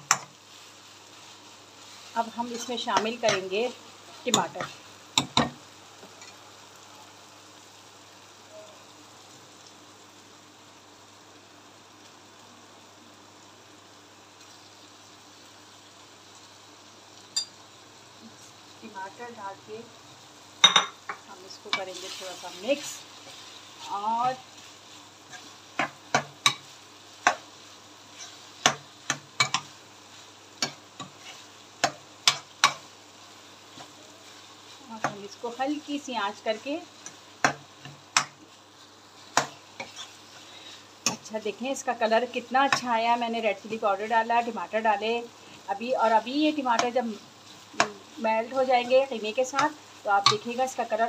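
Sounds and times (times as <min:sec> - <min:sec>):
meat sizzling in a pan: 0:00.0 - 0:51.0.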